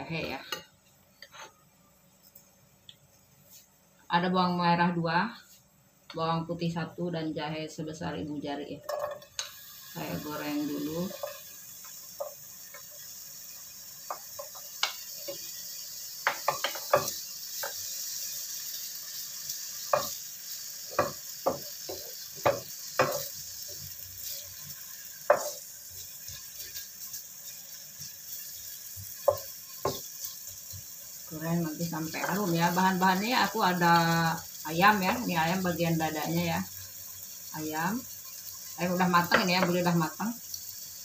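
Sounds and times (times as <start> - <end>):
aromatics sizzling in oil: 0.0 - 41.0.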